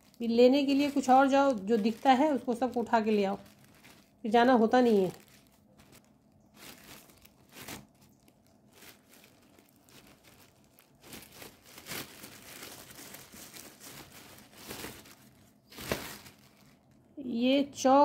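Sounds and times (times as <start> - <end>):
plastic bag crinkling: 0.0 - 17.1.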